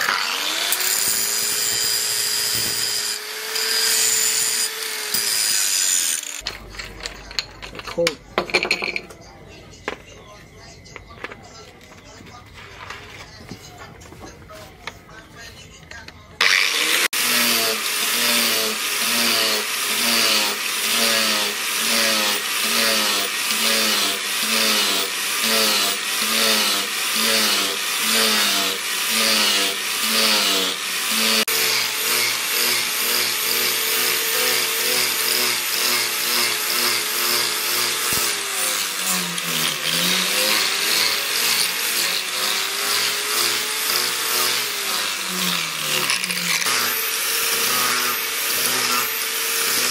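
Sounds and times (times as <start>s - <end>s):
angle grinder grinding steel: 0.0s - 9.0s, 16.4s - 49.9s.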